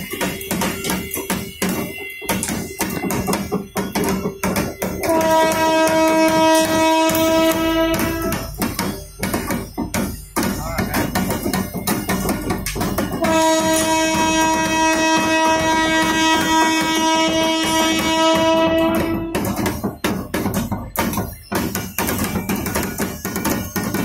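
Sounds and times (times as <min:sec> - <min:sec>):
music with rhythmic beat: 0:00.0 - 0:24.0.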